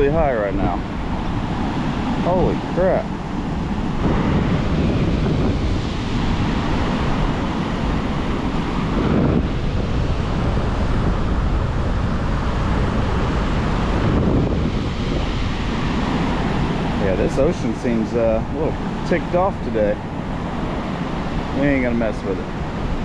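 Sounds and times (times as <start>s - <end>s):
surf breaking on shore: 0.0s - 23.0s
wind buffeting microphone: 0.0s - 23.0s.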